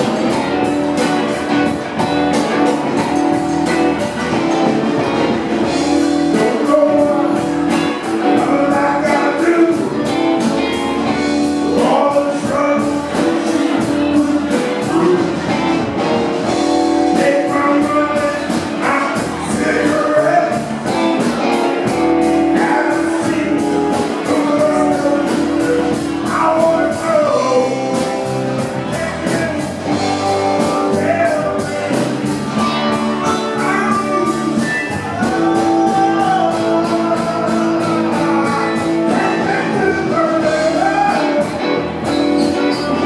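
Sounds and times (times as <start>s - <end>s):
drum beat: 0.0s - 43.0s
electric guitars: 0.0s - 43.0s
keyboard: 0.0s - 43.0s.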